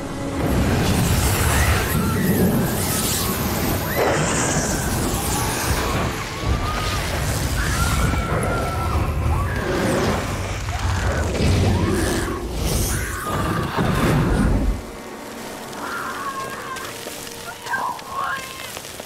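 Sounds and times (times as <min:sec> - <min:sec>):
flamethrower rushing flame: 0:00.0 - 0:19.0.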